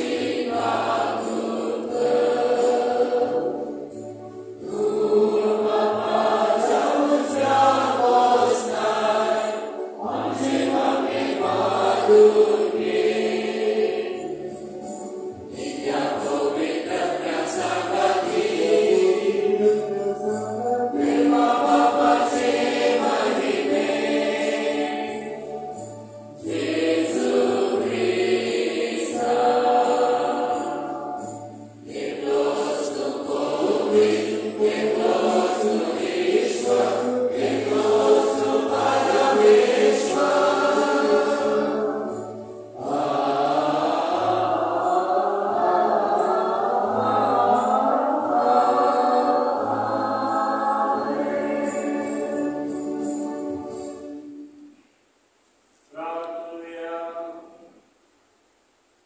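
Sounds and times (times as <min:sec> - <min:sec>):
choir singing a hymn: 0:00.0 - 0:54.7.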